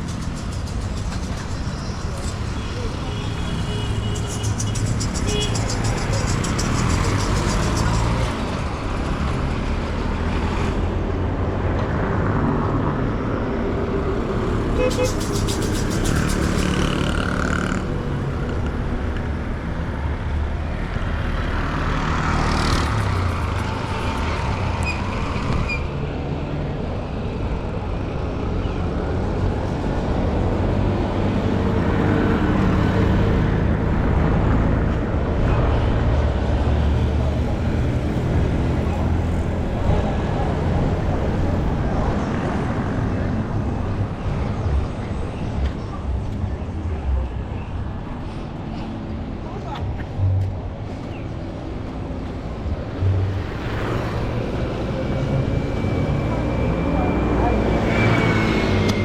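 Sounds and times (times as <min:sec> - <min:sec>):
low traffic rumble: 0:00.0 - 0:59.0
vehicle engines passing: 0:00.0 - 0:59.0.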